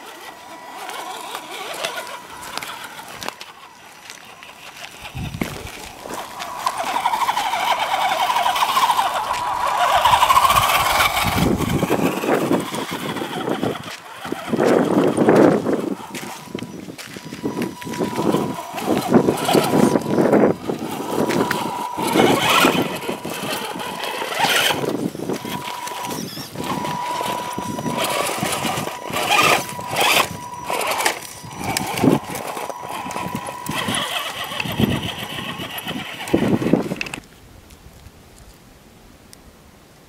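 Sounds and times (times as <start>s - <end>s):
electric motor whining: 0.0s - 37.3s
tyres crunching over dirt: 0.0s - 38.6s.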